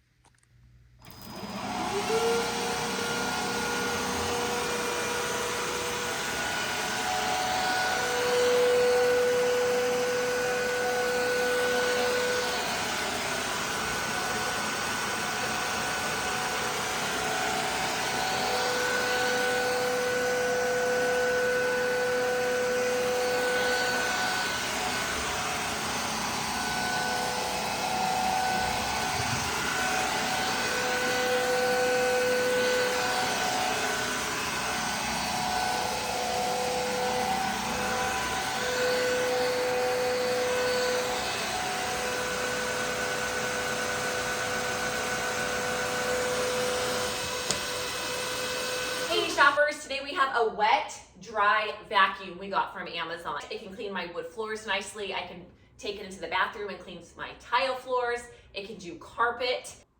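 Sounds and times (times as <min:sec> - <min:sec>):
vacuum mop motor whining: 0:01.0 - 0:49.7.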